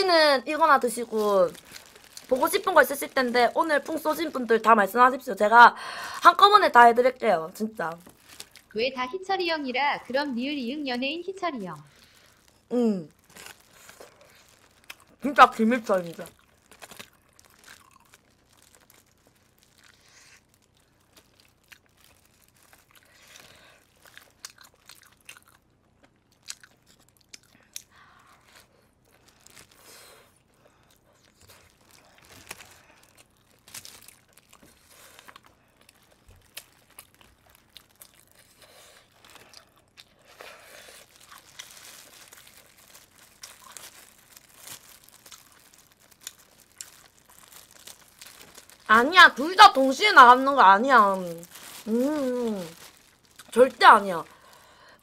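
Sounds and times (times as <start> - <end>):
faint chewing and crunching: 0.4 - 6.5, 7.1 - 8.8, 11.2 - 55.0.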